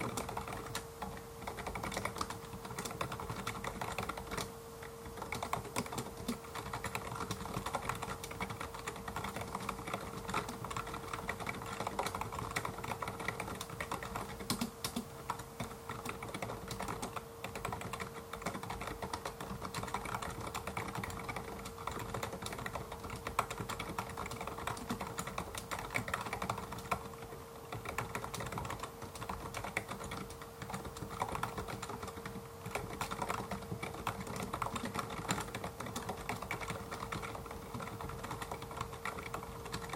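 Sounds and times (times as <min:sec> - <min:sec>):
rapid keyboard key clicks: 0:00.0 - 0:39.9.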